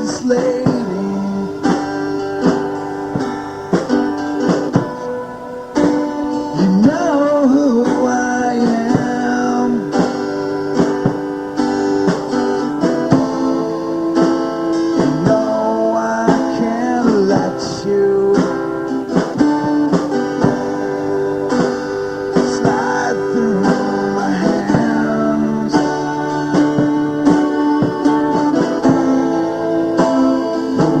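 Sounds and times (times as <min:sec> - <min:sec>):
lead guitar bending notes: 0:00.0 - 0:31.0
person singing: 0:00.0 - 0:31.0
strummed guitar chords: 0:00.0 - 0:31.0.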